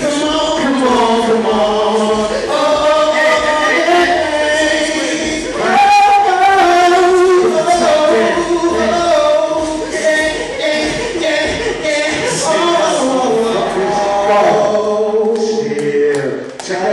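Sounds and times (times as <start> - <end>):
music: 0.0 - 16.9
several voices singing: 0.0 - 16.9.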